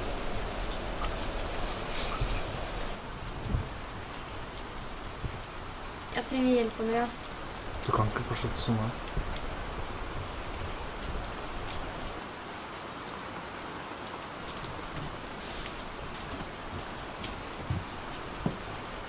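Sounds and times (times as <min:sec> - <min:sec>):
raindrops ticking close by: 0:00.0 - 0:19.0
steady rain falling: 0:00.0 - 0:19.0.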